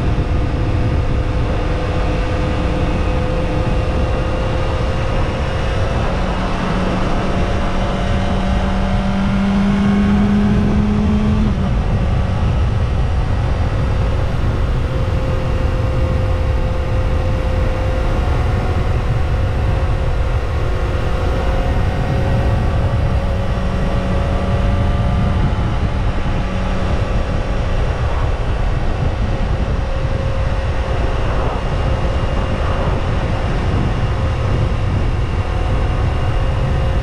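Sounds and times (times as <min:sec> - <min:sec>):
motorcycle engine running: 0:00.0 - 0:37.0
wind noise: 0:00.0 - 0:37.0.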